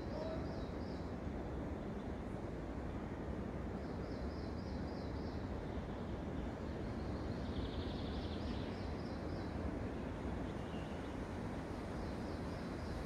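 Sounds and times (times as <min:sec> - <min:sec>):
wind through forest canopy: 0:00.0 - 0:13.0.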